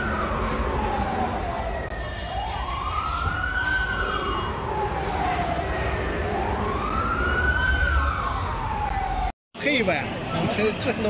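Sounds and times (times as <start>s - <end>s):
emergency siren wailing: 0.0s - 9.4s
low street rumble: 0.0s - 10.8s.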